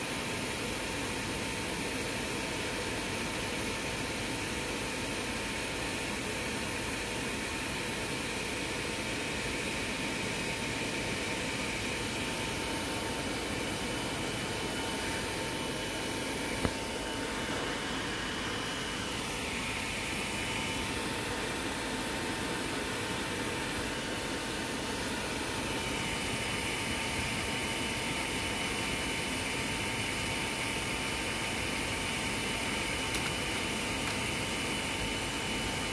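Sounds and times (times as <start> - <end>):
electric fan whirring: 0.0 - 35.9.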